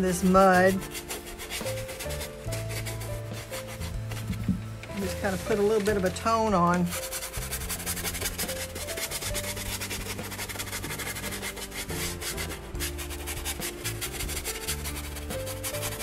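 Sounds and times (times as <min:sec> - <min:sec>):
paintbrush scrubbing on canvas: 0:00.0 - 0:16.0.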